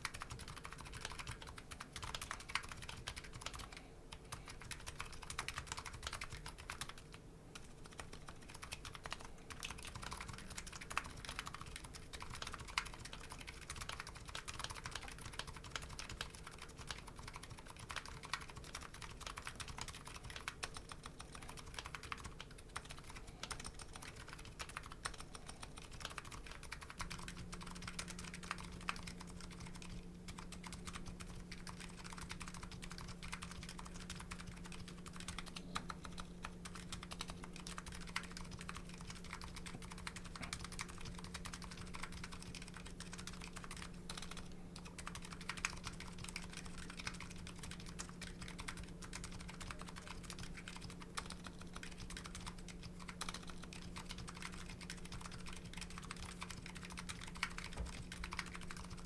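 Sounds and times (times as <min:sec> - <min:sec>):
fast typing on a keyboard: 0:00.0 - 0:59.0.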